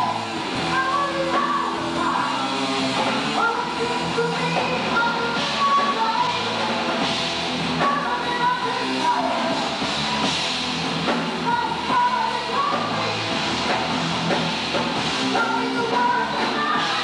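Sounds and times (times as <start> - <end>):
singer's lead vocal: 0.0 - 9.9, 11.0 - 14.4, 15.2 - 17.0
bass guitar: 0.0 - 17.0
distorted electric guitar: 0.0 - 17.0
drum kit: 0.0 - 17.0.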